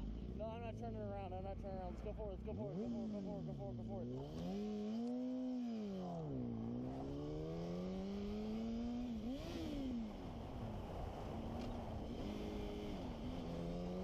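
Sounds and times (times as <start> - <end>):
wind and road noise: 0.0 - 14.0
motorcycle engine revving: 2.4 - 14.0.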